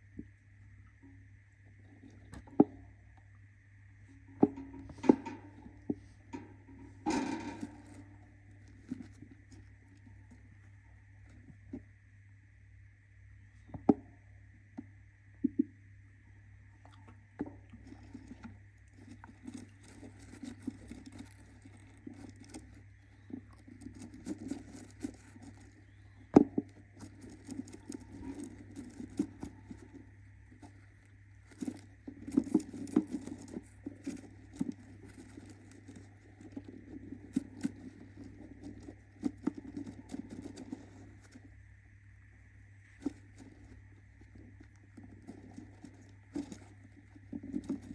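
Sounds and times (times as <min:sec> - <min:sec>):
bird scratching and rustling in nest: 0:00.8 - 0:03.0, 0:04.0 - 0:12.0, 0:17.4 - 0:47.9.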